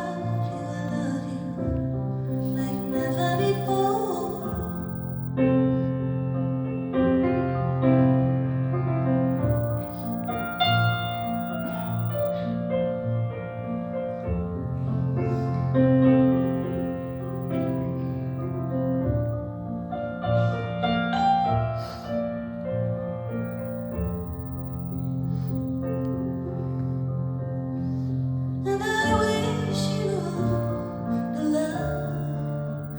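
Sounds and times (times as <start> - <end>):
slow piano music: 0.0 - 32.9.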